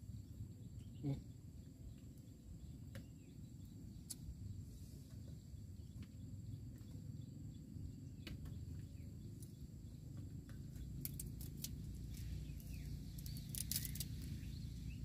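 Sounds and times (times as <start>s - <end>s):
insects chirring: 0.0s - 15.0s
steady low rumble: 0.0s - 15.0s.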